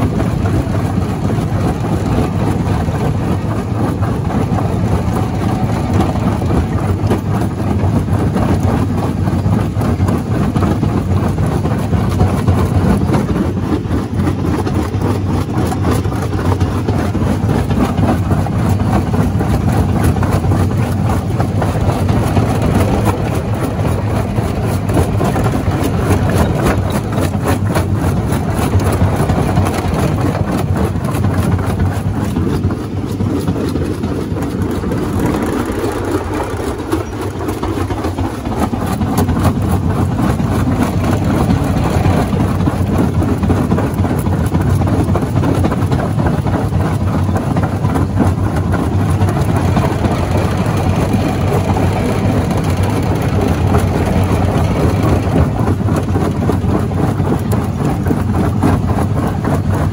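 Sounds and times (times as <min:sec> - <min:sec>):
rock crusher droning: 0:00.0 - 0:59.9.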